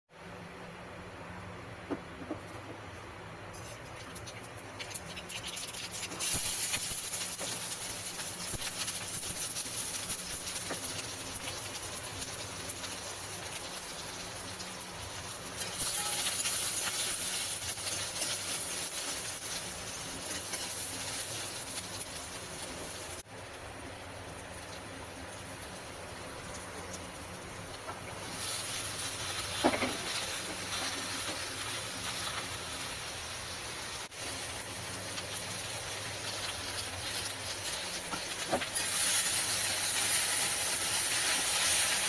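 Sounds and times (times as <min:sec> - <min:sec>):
food sizzling in hot oil: 0:03.5 - 0:42.0.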